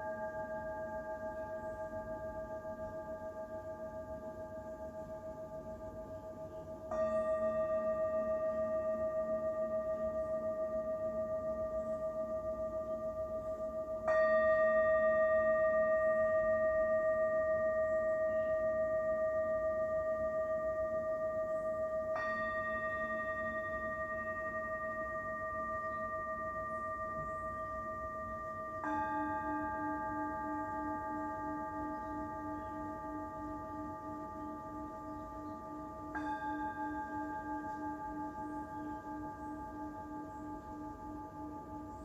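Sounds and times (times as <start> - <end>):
singing bowl ringing: 0.0 - 42.0.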